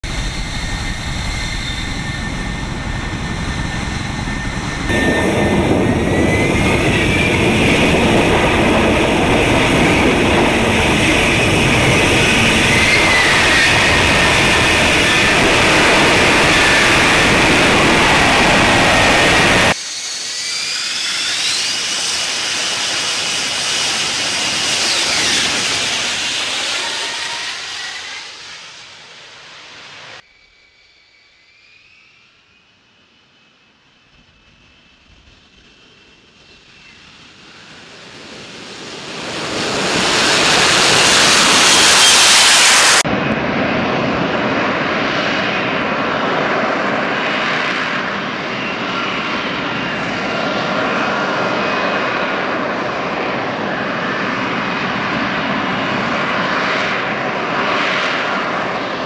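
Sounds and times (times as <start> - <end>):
jet engine whining rush: 0.0 - 59.0.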